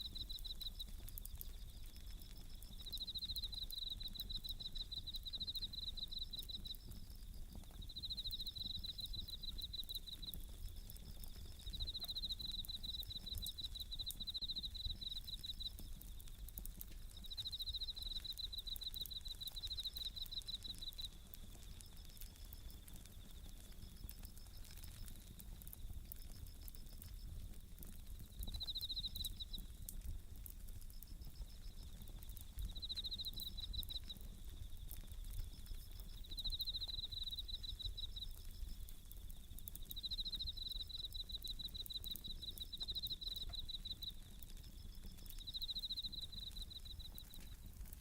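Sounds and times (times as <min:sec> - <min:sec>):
crickets trilling: 0:00.0 - 0:48.0
faint campfire crackles: 0:00.0 - 0:48.0.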